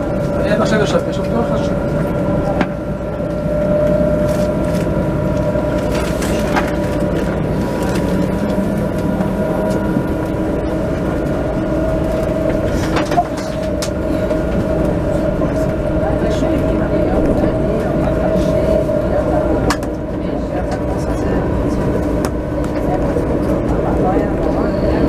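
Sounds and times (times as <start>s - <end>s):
tram rumbling on track: 0.0s - 25.0s
tram whine: 0.0s - 25.0s.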